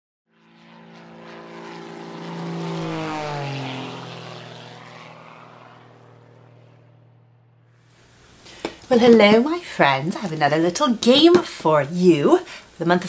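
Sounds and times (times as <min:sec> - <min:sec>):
propeller airplane flying past: 0:00.3 - 0:12.8.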